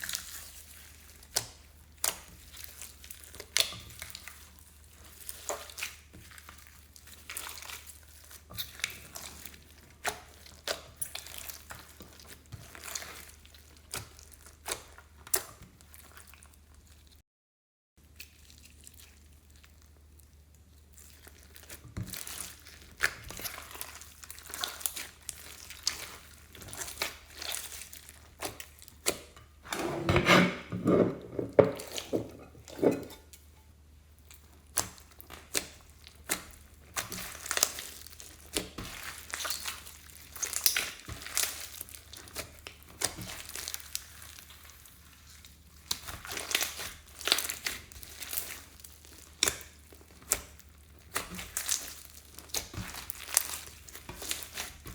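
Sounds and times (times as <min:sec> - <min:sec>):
squishing and crunching: 0:00.0 - 0:17.2, 0:18.0 - 0:29.8, 0:34.1 - 0:54.9.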